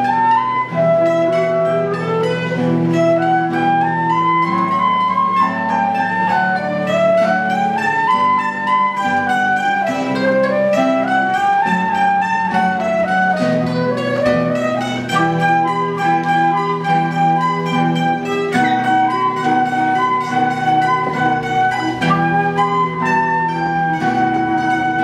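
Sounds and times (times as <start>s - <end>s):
flute melody: 0.0s - 25.0s
guitar accompaniment: 0.0s - 25.0s
plucked mandolin: 0.0s - 25.0s.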